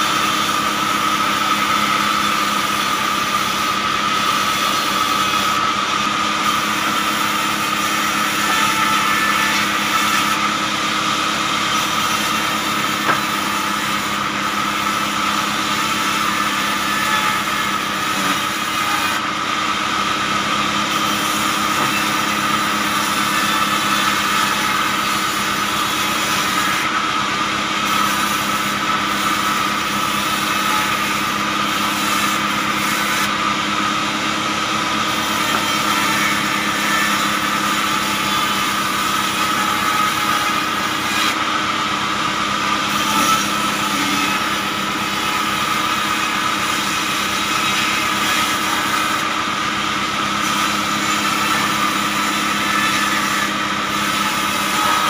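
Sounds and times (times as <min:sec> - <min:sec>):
band saw mill whining: 0:00.0 - 0:55.0.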